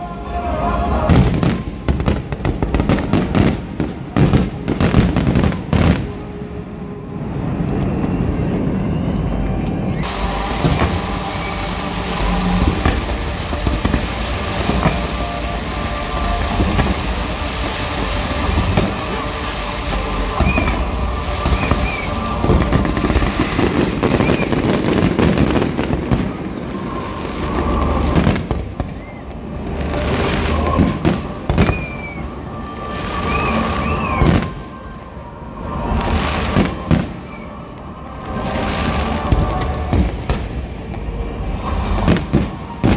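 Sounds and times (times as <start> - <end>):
fireworks bangs and crackling: 0.9 - 6.7, 9.9 - 42.9.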